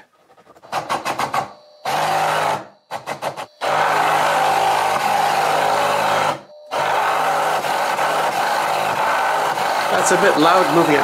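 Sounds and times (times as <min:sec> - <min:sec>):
router motor humming and whining: 0:01.6 - 0:11.0.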